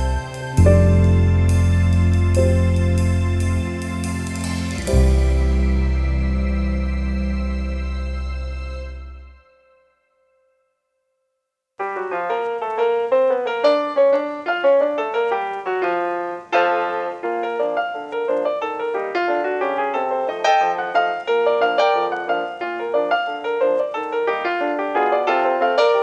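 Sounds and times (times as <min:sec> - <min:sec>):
piano music: 0:00.0 - 0:09.8, 0:11.8 - 0:26.0.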